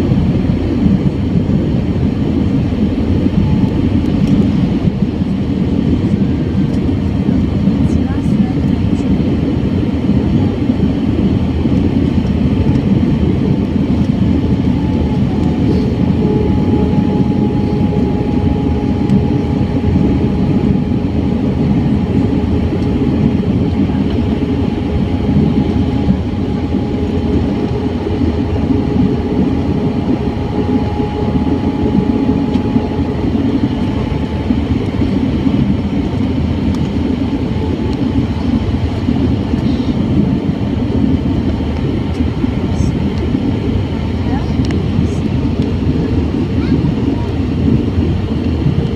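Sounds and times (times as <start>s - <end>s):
airplane engines roaring: 0.0s - 48.9s.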